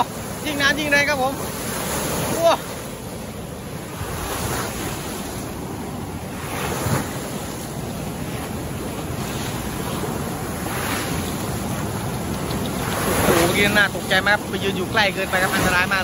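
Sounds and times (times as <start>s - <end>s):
water rushing through sluice gates: 0.0s - 5.3s, 6.2s - 16.0s.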